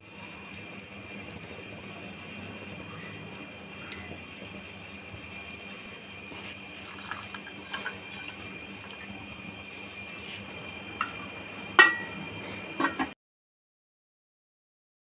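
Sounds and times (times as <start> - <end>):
steady kitchen hiss: 0.0 - 13.1
constant high hum: 0.0 - 13.2.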